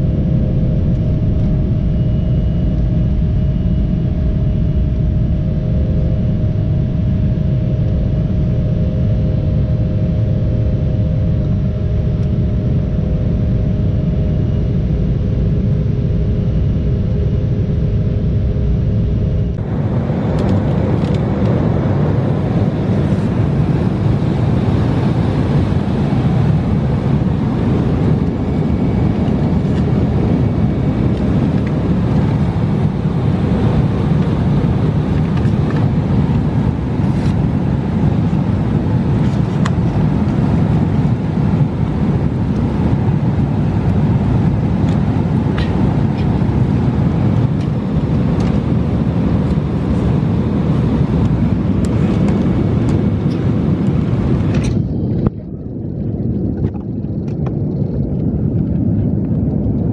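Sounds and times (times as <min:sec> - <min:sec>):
engine and airflow rush: 0:00.0 - 0:59.9
jet engine rumble in cabin: 0:00.0 - 0:59.9.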